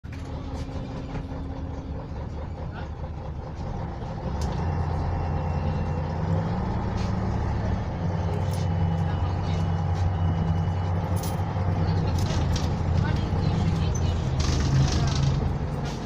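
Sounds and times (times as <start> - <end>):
diesel bus engine running: 0.0 - 16.0.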